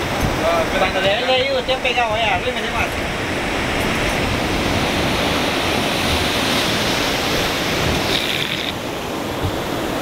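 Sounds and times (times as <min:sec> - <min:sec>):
rushing water: 0:00.0 - 0:10.0
wind: 0:00.0 - 0:10.0.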